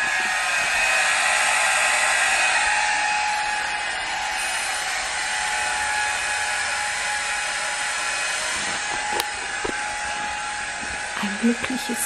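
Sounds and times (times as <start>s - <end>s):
hair dryer whooshing hum: 0.0s - 12.0s.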